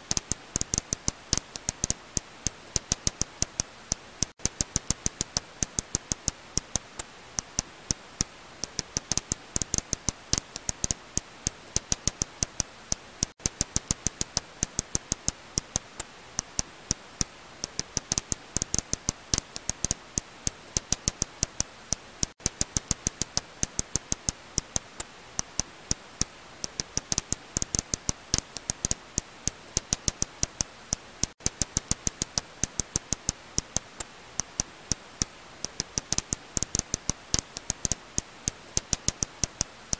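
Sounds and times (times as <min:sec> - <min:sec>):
steady hiss: 0:00.0 - 0:39.9
bat echolocation clicks: 0:00.1 - 0:39.9.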